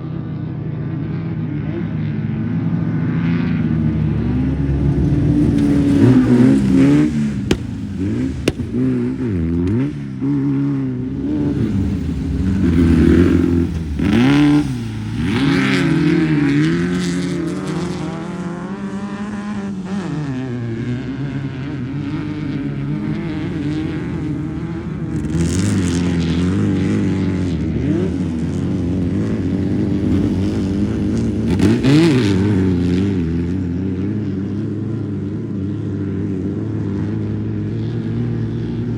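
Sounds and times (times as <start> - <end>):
off-road vehicle engines revving: 0.0 - 38.9.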